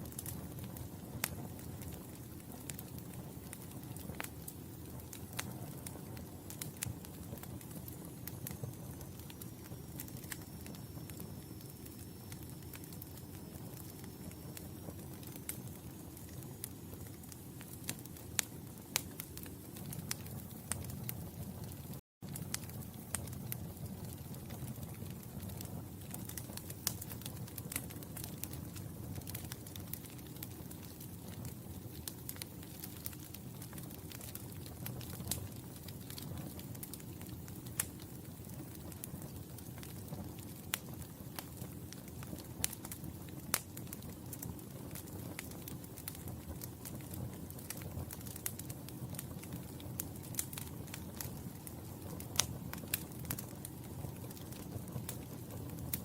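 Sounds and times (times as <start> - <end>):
fireplace fire crackling and popping: 0.0 - 56.0.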